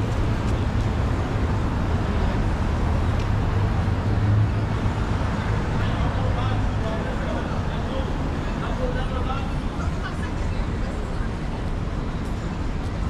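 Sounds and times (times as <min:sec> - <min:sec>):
city street traffic noise: 0:00.0 - 0:13.0
low hum of vehicle engines: 0:00.0 - 0:13.0.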